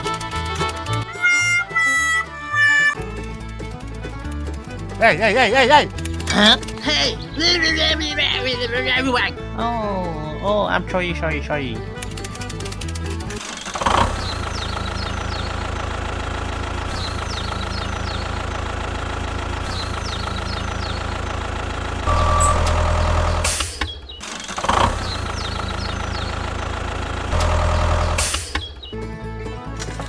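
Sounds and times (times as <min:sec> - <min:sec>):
engine idling with knock: 0:00.0 - 0:09.5, 0:11.8 - 0:30.0.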